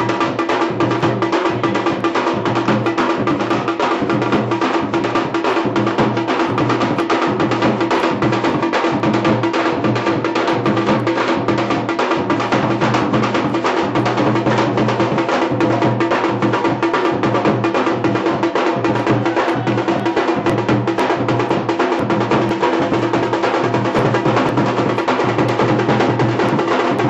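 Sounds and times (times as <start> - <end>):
barrel drum beaten fast: 0.0 - 27.0.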